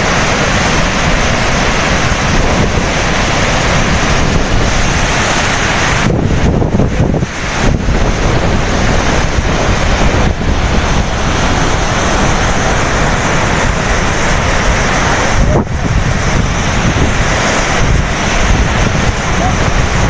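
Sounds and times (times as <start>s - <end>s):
water rushing from spillway: 0.0s - 20.0s
wind buffeting microphone: 0.0s - 20.0s.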